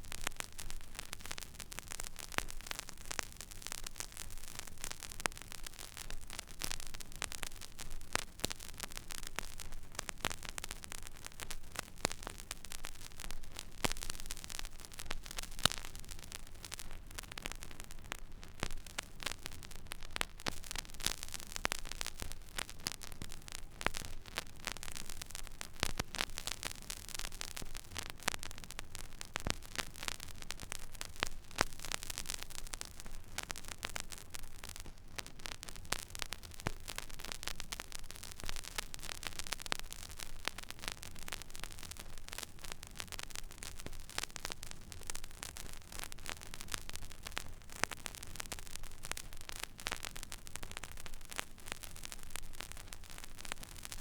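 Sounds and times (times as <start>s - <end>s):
vinyl crackles and pops: 0.0s - 54.0s.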